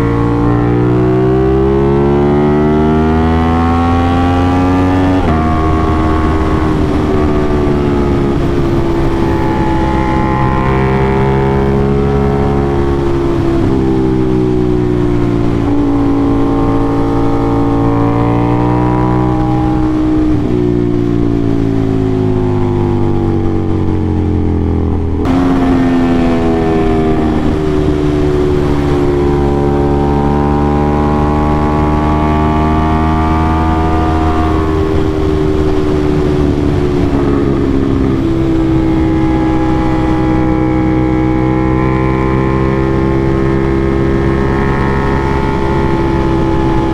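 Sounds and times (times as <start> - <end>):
sport bike engine revving: 0.0 - 46.9.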